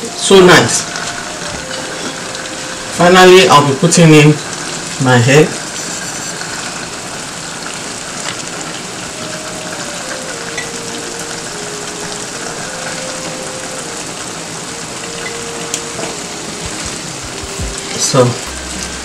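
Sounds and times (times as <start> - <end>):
faint tune of held notes: 0.0 - 5.0, 8.5 - 19.0
stew sizzling in a pan: 0.0 - 19.0.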